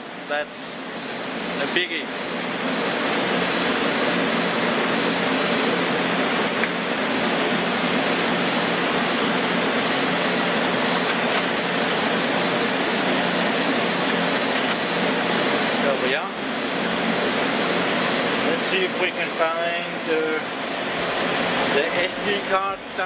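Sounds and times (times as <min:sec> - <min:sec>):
ventilation fans rushing: 0:00.0 - 0:23.0.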